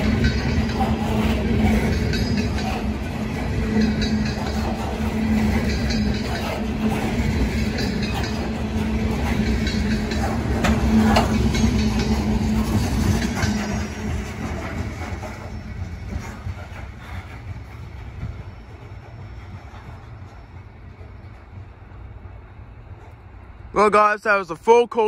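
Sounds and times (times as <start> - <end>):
freight train wheels rumbling on rails: 0.0 - 25.0.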